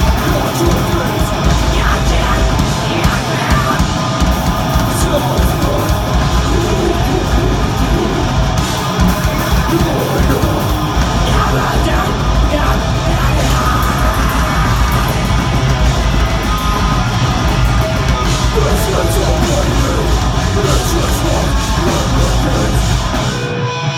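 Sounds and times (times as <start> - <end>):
bass guitar: 0.0 - 23.9
distorted guitars: 0.0 - 23.9
fast dense drumming: 0.0 - 23.9
harsh screamed vocals: 0.0 - 23.9.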